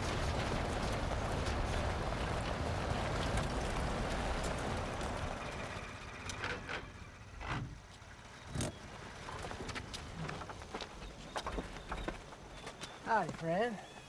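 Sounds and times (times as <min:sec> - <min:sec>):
truck engine rumble: 0:00.0 - 0:12.6.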